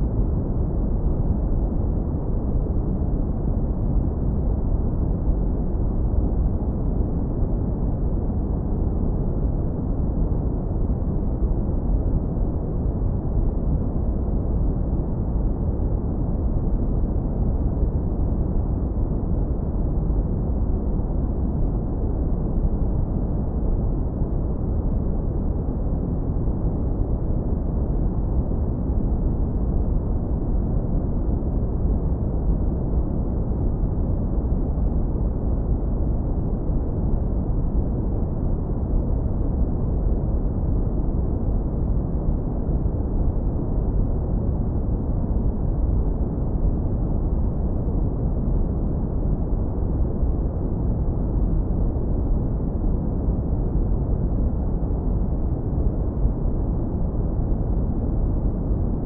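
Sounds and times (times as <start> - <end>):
deep brown noise rumble: 0.0 - 59.0.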